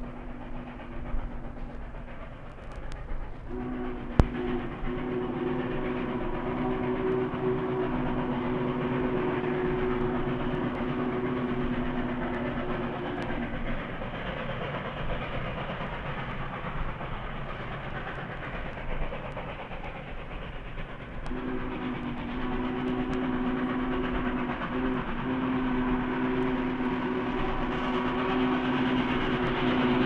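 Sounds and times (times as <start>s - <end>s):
running train noise: 0.0s - 30.0s
steam locomotive chime whistle: 0.0s - 30.0s.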